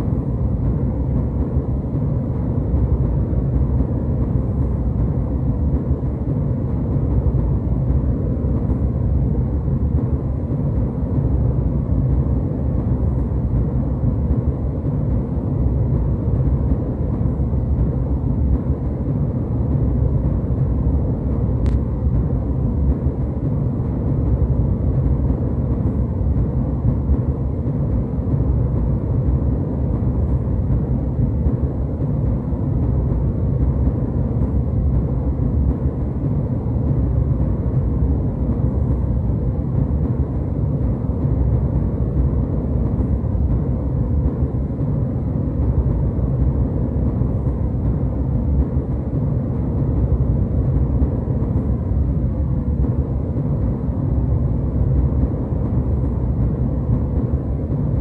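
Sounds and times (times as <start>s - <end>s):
airplane cabin low rumble: 0.0s - 58.0s.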